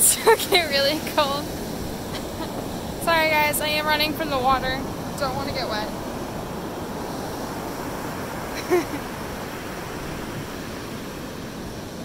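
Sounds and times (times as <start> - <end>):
ocean surf breaking on sand: 0.0 - 12.0.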